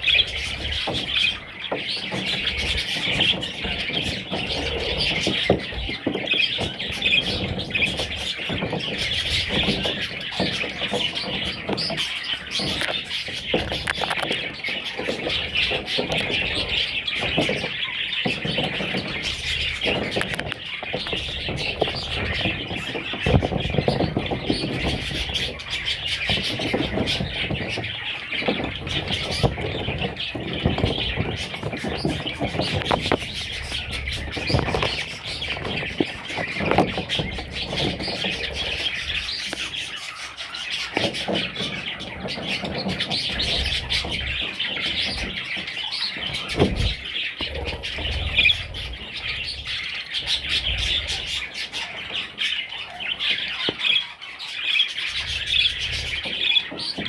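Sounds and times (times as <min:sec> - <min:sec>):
chicks chirping: 0:00.0 - 0:57.0.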